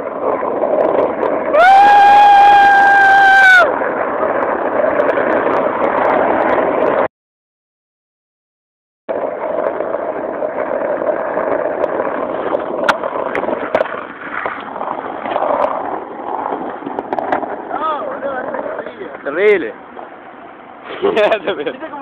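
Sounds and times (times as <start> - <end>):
skateboard wheels rolling on asphalt: 0.0 - 7.1, 9.1 - 22.0.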